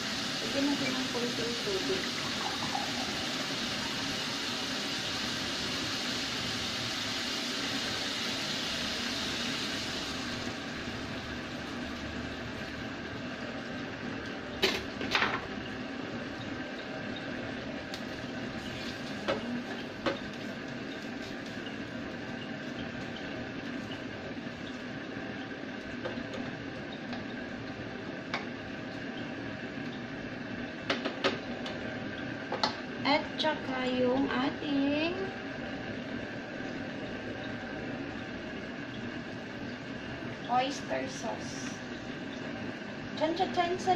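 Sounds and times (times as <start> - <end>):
meat sizzling in a saucepan: 0.0 - 43.9.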